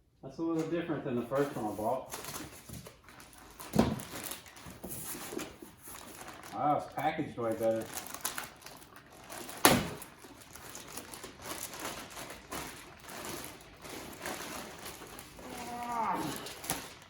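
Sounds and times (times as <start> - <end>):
packaging rustling: 0.6 - 17.0.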